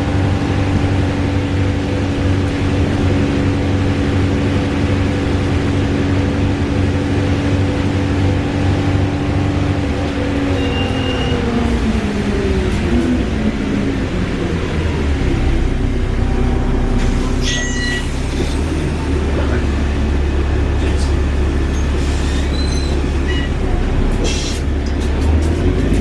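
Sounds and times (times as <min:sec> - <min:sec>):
bus drivetrain whirring: 0:00.0 - 0:26.0.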